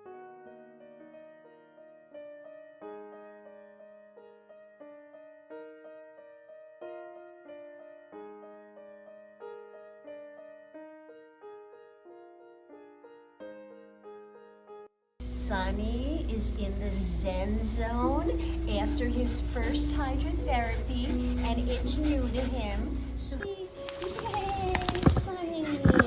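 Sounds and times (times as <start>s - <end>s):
gentle slow piano melody: 0.0s - 26.0s.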